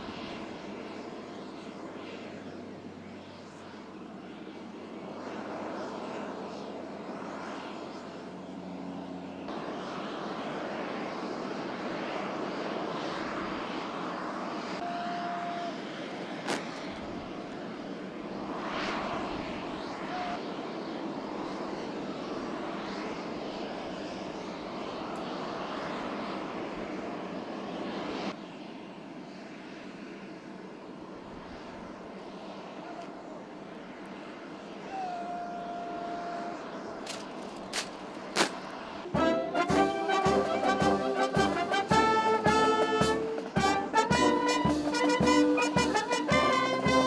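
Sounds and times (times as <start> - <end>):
jet aircraft engine: 0.0 - 47.0.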